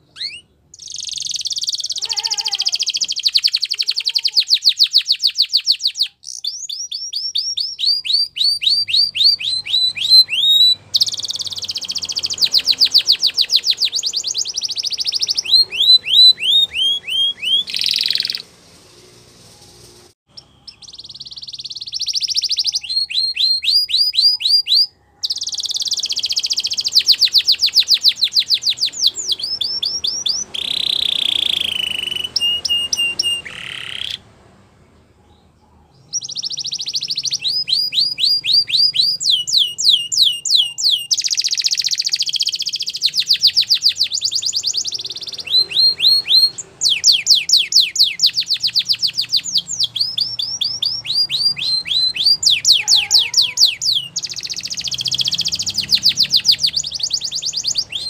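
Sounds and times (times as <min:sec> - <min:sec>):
canary singing rapid trills: 0:00.0 - 0:34.4, 0:35.2 - 0:58.0.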